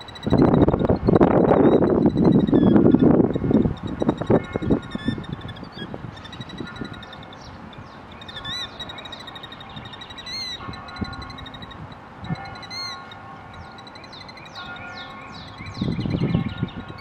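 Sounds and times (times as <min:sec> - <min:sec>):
faint bird chirping: 0:00.0 - 0:17.0
high rising and falling bird calls: 0:00.0 - 0:17.0.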